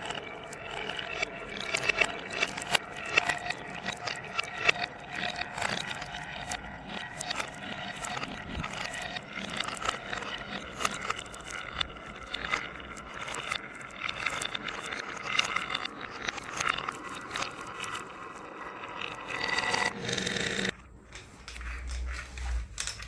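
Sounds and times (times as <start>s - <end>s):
marbles rolling on wooden track: 0.1s - 23.0s.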